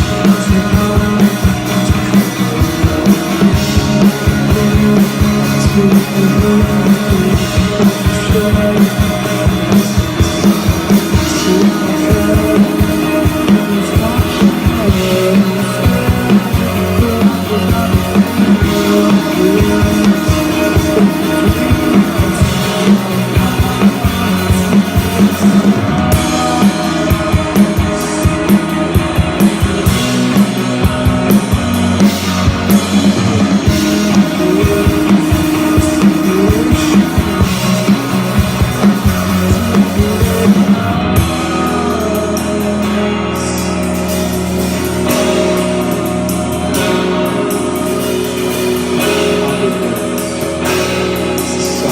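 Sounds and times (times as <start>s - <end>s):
drum kit: 0.0s - 51.9s
electric guitars sustaining: 0.0s - 51.9s.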